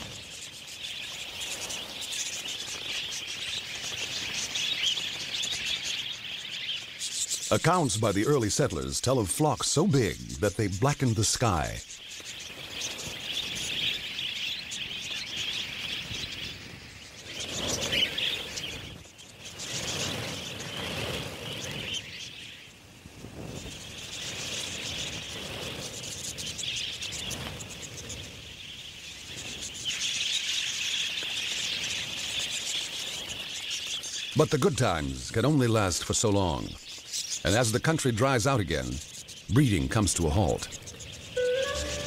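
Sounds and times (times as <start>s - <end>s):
budgerigars twittering: 0.0s - 22.8s, 23.6s - 42.0s.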